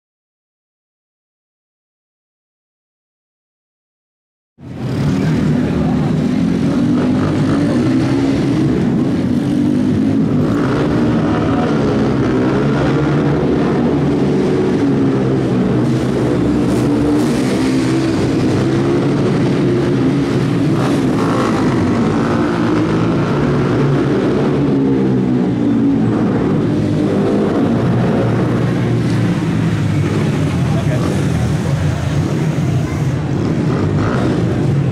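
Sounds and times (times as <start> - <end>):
quad bike engines revving: 4.6 - 34.9.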